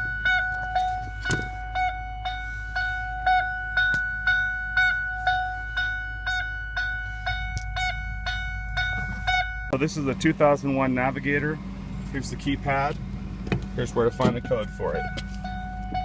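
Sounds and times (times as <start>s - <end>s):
car warning chime dinging: 0.0s - 16.0s.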